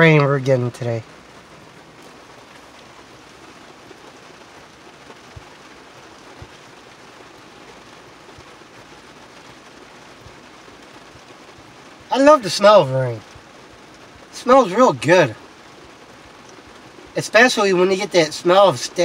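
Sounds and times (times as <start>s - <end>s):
heavy rain on truck: 0.0s - 19.0s.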